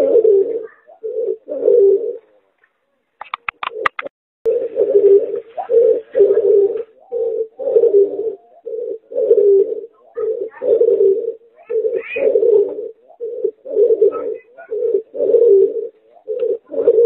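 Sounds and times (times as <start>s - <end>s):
dove cooing: 0.0s - 2.5s, 3.3s - 17.0s.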